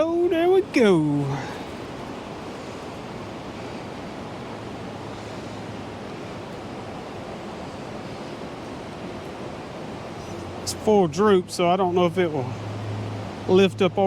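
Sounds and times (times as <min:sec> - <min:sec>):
river rushing over shoals: 0:00.0 - 0:14.0.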